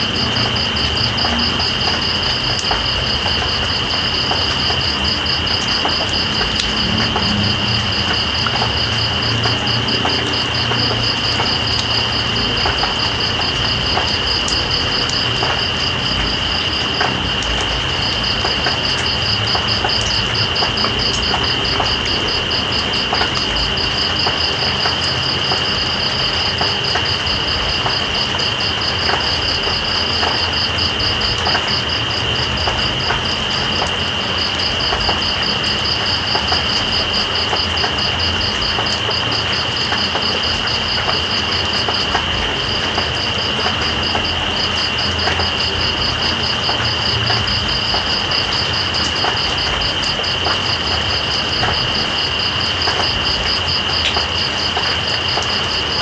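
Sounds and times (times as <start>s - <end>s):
rain hiss: 0.0s - 56.0s
water drip ticks: 0.0s - 56.0s.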